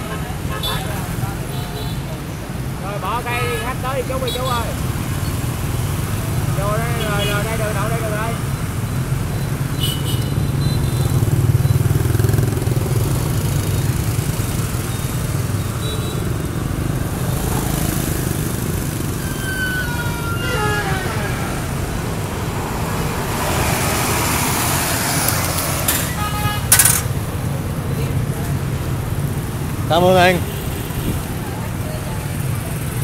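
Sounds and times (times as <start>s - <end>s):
passing motorbikes: 0.0s - 33.0s
traffic engine rumble and road noise: 0.0s - 33.0s.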